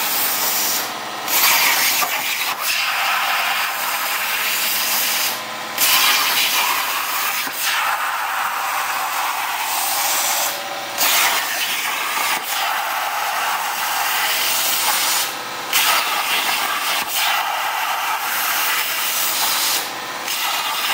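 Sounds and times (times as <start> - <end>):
plasma torch hissing: 0.0 - 20.9.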